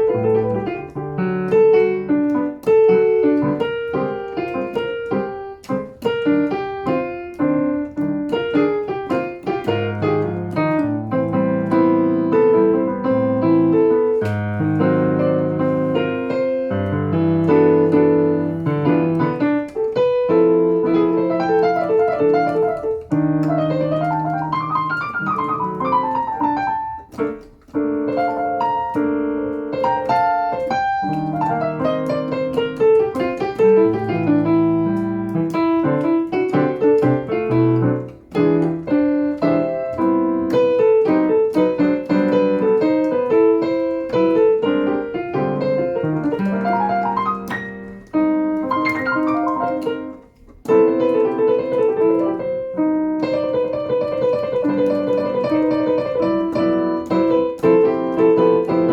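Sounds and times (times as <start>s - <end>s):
solo jazz piano: 0.0s - 58.9s.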